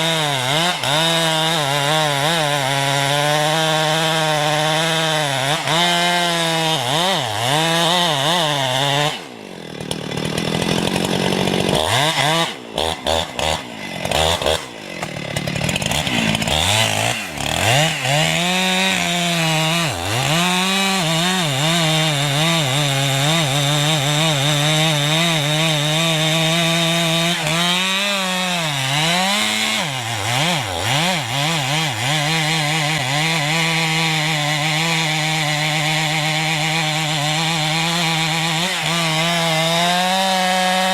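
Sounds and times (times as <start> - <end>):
small engine cutting wood: 0.0 - 40.9.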